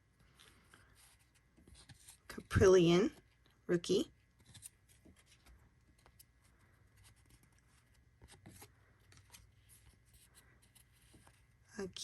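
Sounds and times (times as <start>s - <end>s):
trading cards being handled: 0.2s - 3.5s, 4.2s - 11.6s.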